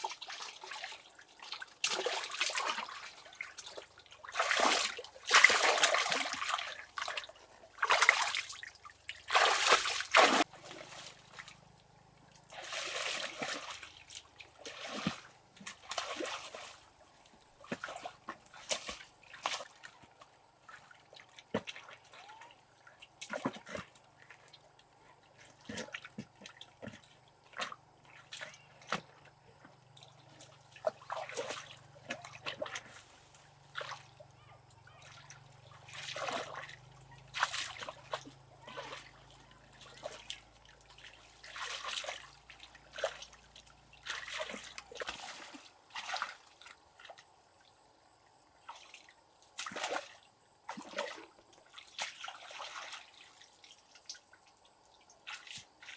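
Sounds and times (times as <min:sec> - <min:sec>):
water splashing and sloshing: 0:00.0 - 0:55.9.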